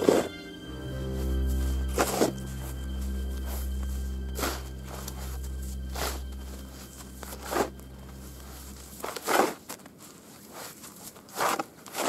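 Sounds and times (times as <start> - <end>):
shovel scraping and crunching snow: 1.0 - 12.0.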